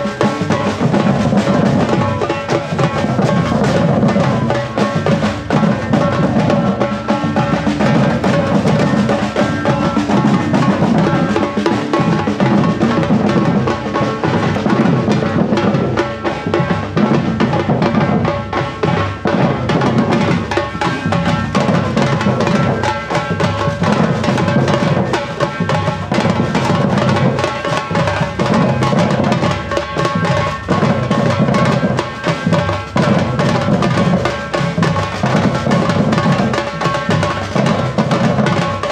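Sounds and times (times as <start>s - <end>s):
street percussion band drumming: 0.0s - 38.9s.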